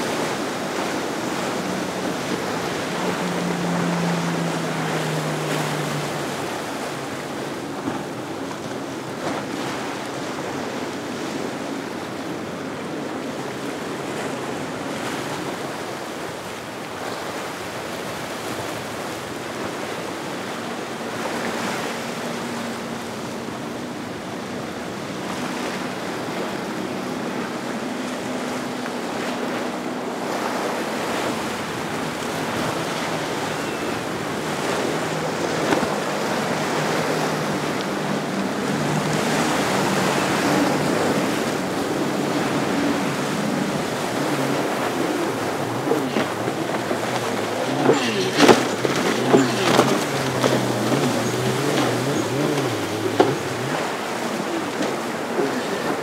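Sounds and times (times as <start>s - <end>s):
outboard motors humming: 0.0s - 56.0s
surf: 0.0s - 56.0s
wind: 0.0s - 56.0s.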